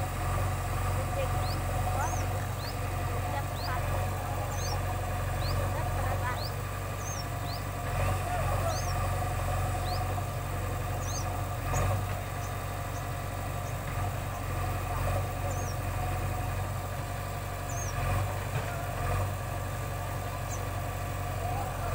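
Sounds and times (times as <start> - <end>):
diesel engine humming: 0.0 - 21.9.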